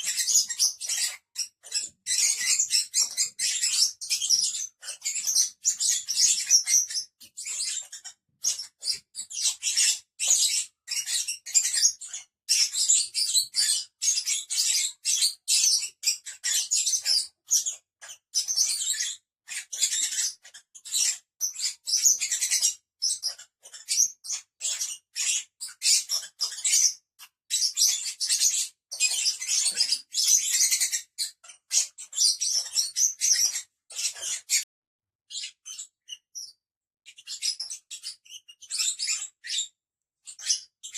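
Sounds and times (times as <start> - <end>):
lovebirds chirping: 0.0 - 34.7, 35.3 - 40.9.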